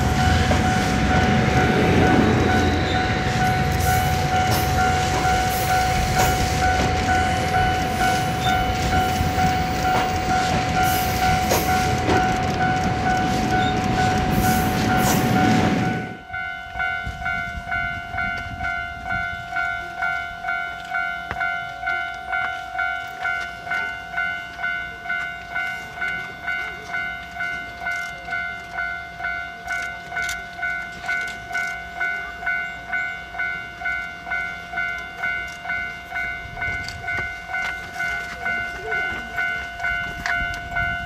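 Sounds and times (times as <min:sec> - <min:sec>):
level crossing bell ringing: 0:00.0 - 0:41.0.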